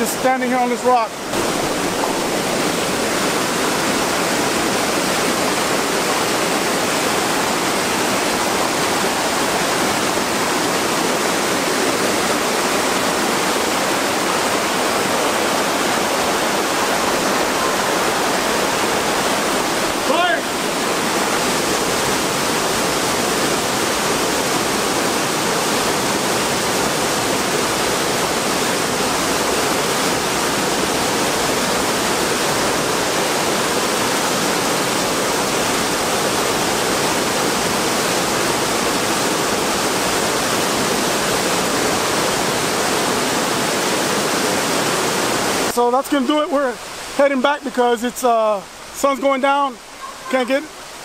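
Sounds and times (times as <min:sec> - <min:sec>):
river rushing over boulders: 0:00.0 - 0:51.0.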